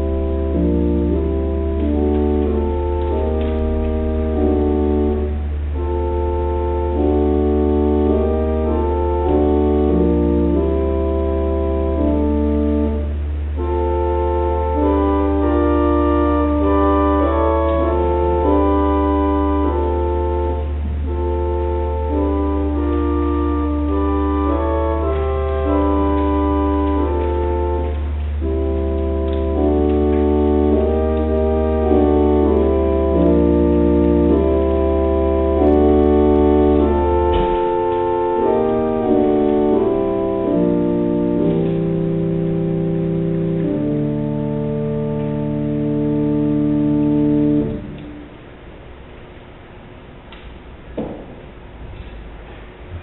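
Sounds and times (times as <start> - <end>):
organ playing slow chords: 0.0 - 53.0.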